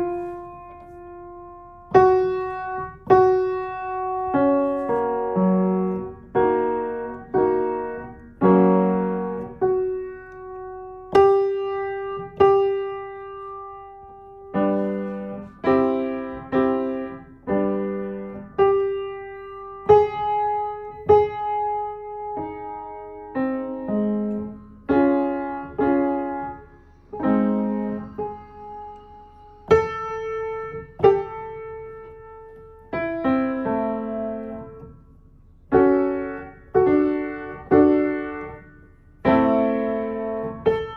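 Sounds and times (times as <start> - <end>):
slow piano: 0.0 - 40.9.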